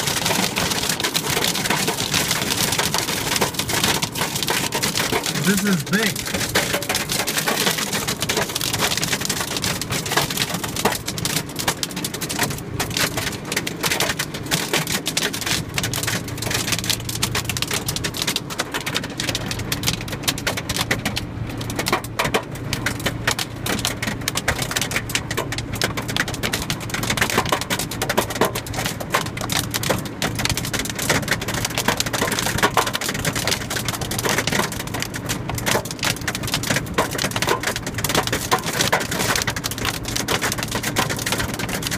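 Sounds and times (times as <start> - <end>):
hail pelting a car: 0.0 - 41.9.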